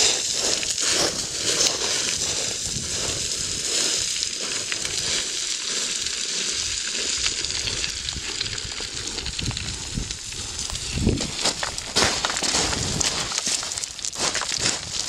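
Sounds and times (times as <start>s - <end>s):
footsteps sliding on loose scree: 0.0s - 15.0s.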